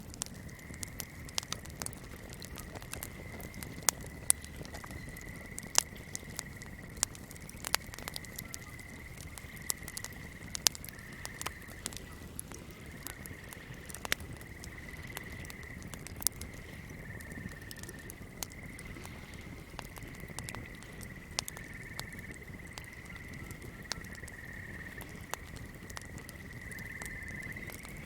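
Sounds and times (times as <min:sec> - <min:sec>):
flame crackling and popping: 0:00.0 - 0:28.0.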